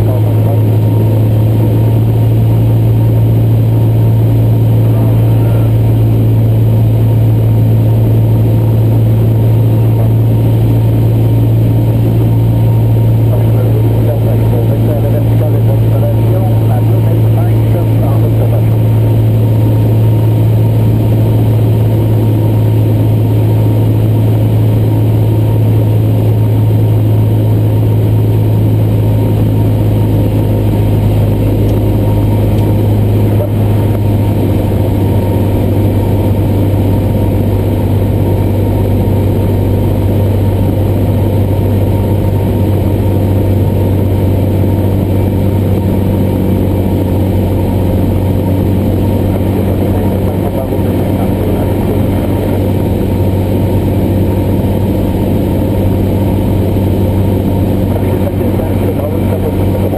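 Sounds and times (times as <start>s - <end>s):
airplane engine droning in cockpit: 0.0s - 59.9s.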